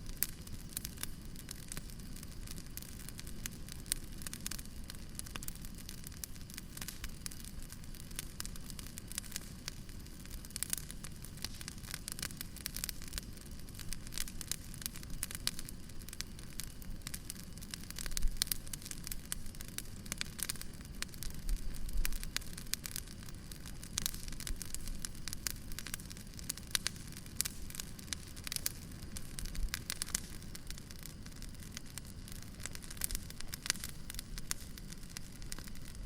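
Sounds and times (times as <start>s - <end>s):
firewood crackling and popping: 0.0s - 36.0s
low rumble of fire: 0.0s - 36.0s.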